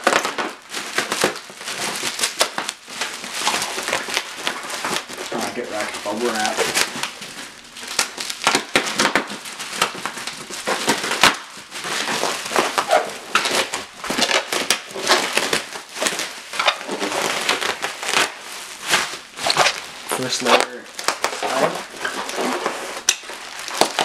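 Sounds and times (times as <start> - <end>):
bubble wrap popping: 0.0 - 24.0.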